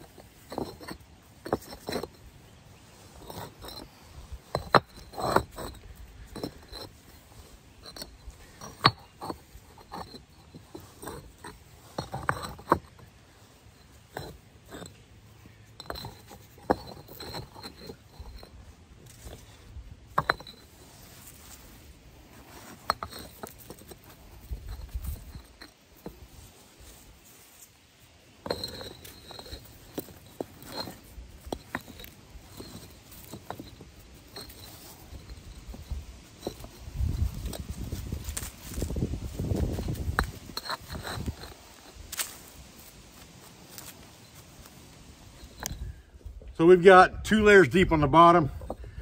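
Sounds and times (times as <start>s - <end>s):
bricks knocking and scraping: 0.0s - 27.0s, 28.4s - 46.5s, 48.4s - 49.0s.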